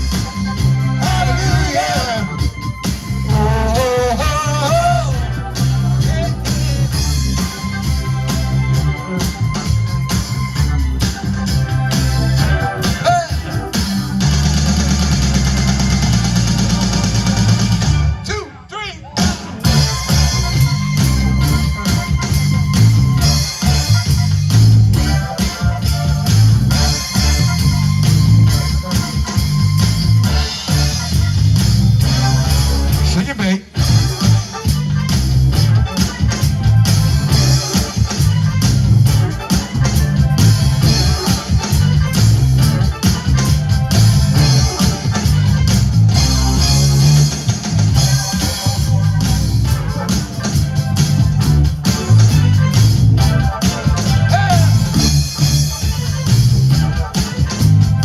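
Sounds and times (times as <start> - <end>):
bass guitar: 0.0 - 18.4, 19.0 - 58.0
drum kit beat: 0.0 - 58.0
live band playing instrumental: 0.0 - 58.0.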